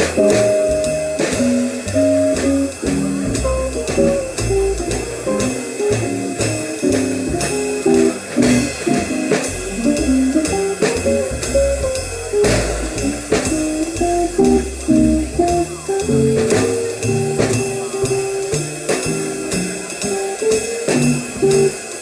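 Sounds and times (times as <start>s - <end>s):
drums on ride cymbal and snare: 0.0s - 22.0s
jazz guitar melody: 0.0s - 22.0s
walking bass: 0.0s - 22.0s.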